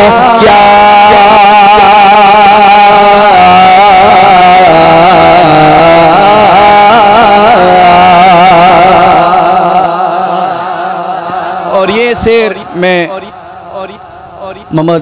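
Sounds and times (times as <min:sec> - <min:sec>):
man singing into a microphone: 0:00.0 - 0:12.3.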